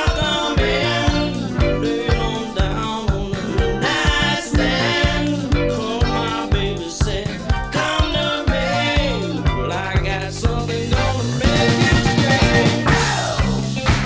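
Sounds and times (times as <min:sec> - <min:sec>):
person singing: 0:00.0 - 0:13.6
backing instruments: 0:00.0 - 0:14.0
steady drum beat: 0:00.0 - 0:14.0.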